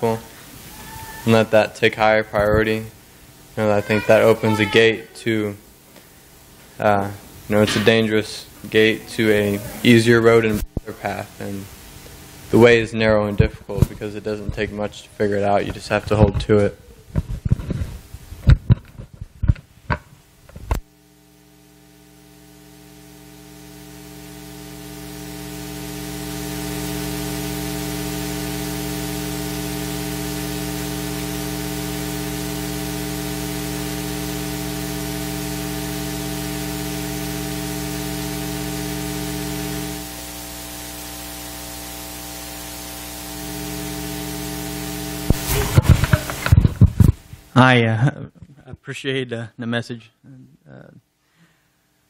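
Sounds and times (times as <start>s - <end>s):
static hiss: 0.0s - 48.9s
electrical hum: 0.0s - 49.0s.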